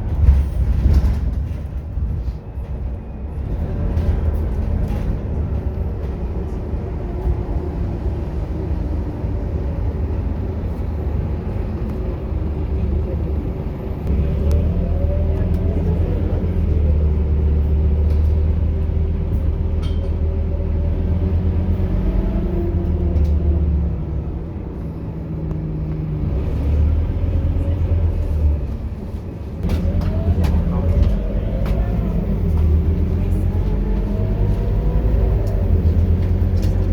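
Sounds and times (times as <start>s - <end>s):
bus diesel engine rumbling: 0.0s - 36.9s.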